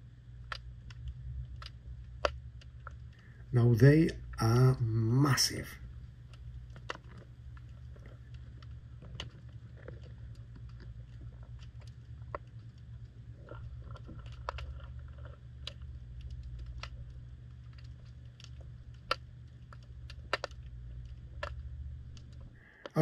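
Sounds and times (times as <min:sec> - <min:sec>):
underwater low rumble: 0:00.0 - 0:22.6
sharp underwater clicks: 0:00.2 - 0:05.0, 0:05.8 - 0:23.0.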